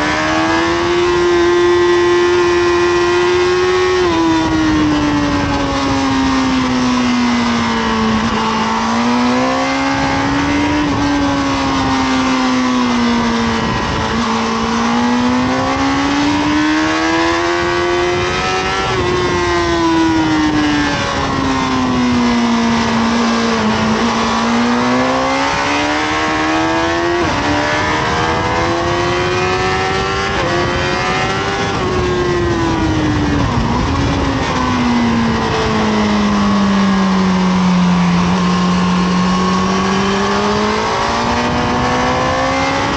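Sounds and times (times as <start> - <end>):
motorcycle engine revving: 0.0 - 42.9
wind rush on microphone: 0.0 - 42.9.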